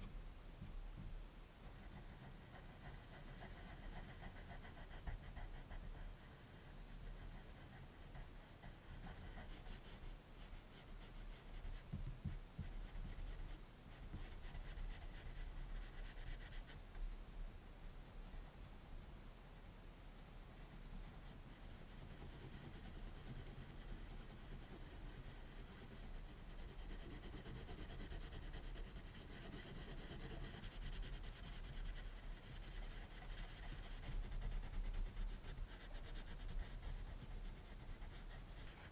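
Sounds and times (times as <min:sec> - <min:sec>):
pencil scratching on paper: 0:01.7 - 0:16.9, 0:20.2 - 0:38.9.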